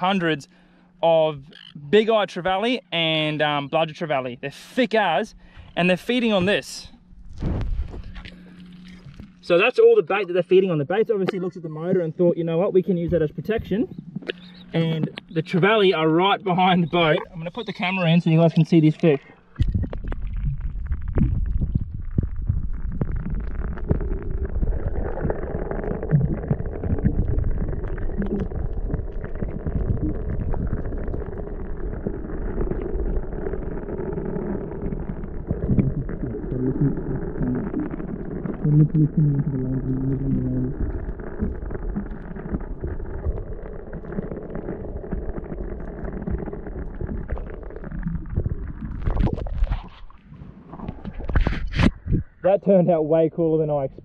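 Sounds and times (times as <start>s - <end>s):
underwater rumble of moving water: 0.0s - 54.0s.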